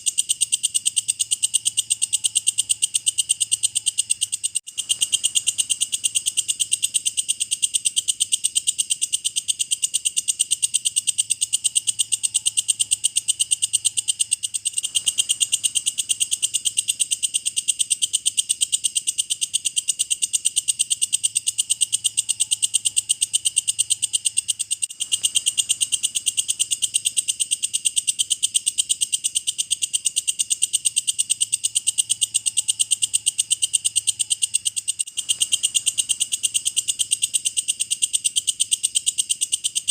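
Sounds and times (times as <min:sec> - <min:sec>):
katydid chirping: 0:00.0 - 0:39.9.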